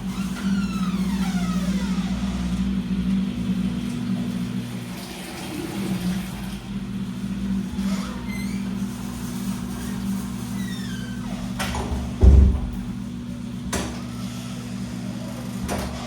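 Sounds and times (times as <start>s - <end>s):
washing machine drum whine: 0.0s - 16.0s
washing machine motor hum: 0.0s - 16.0s.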